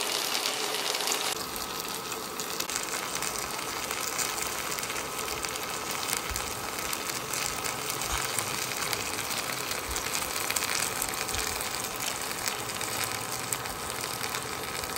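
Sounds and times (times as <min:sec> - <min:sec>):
gravy sizzling on a hot plate: 0:00.0 - 0:14.9.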